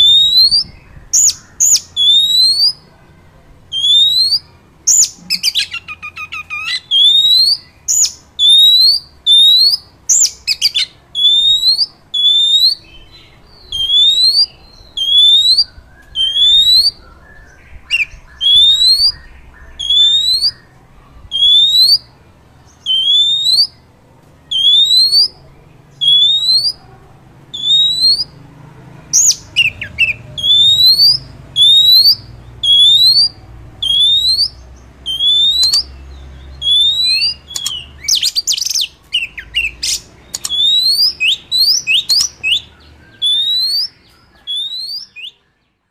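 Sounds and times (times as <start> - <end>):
bird singing rising whistled notes: 0.0 - 2.9, 3.7 - 22.1, 22.8 - 23.9, 24.5 - 26.8, 27.5 - 28.4, 29.2 - 45.8.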